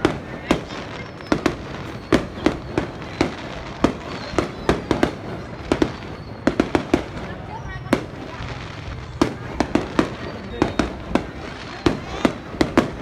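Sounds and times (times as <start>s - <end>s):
distant firework bursts: 0.0s - 13.0s
firework bangs: 0.0s - 13.0s.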